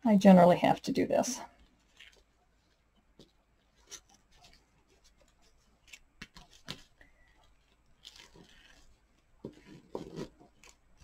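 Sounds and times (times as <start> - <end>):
ribbon and card rustling: 0.8 - 11.0.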